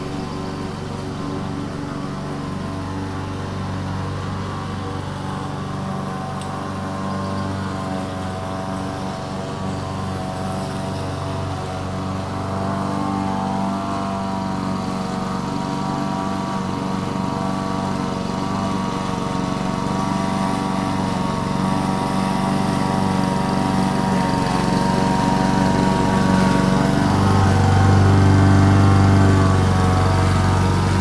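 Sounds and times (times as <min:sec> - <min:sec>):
lawn mower engine cutting grass: 0:00.0 - 0:31.0.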